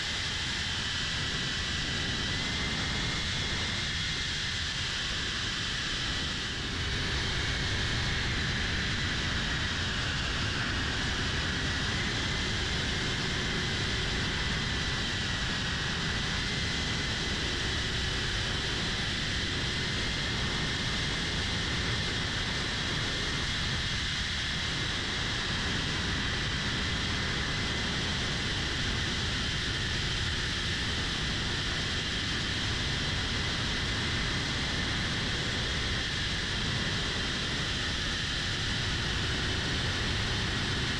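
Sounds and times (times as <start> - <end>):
steady rushing noise: 0.0 - 40.9.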